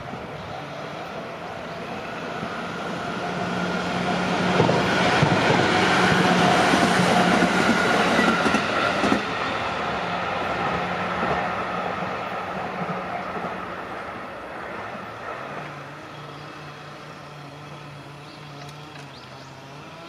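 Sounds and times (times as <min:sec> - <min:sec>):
train passing with rumble: 0:00.0 - 0:20.0.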